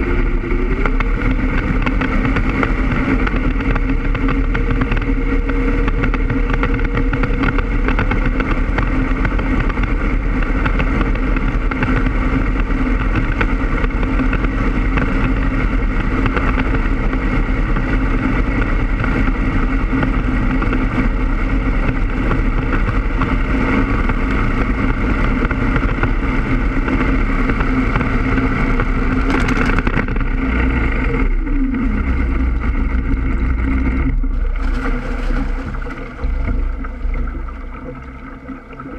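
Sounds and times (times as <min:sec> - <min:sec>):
boat engine running hard: 0:00.0 - 0:38.9
paddle wheel churning water: 0:00.0 - 0:38.9.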